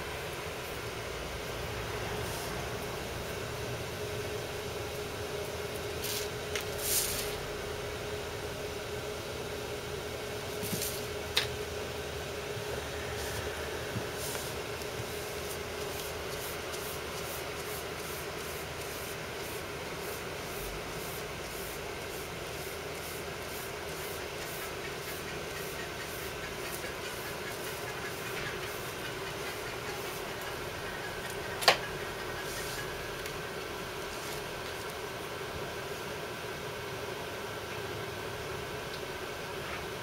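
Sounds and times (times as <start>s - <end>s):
room hum and hiss: 0.0s - 40.0s.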